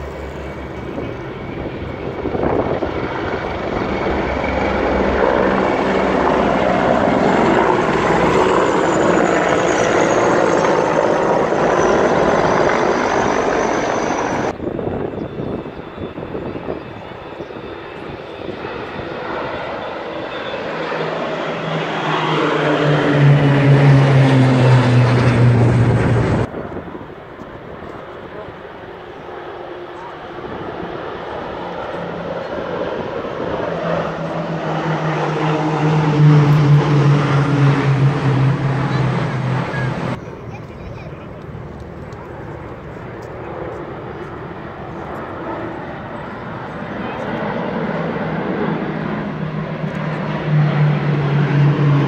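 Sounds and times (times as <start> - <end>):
helicopter engine and rotor noise: 0.0 - 52.0
propeller aircraft engine drone: 0.0 - 52.0.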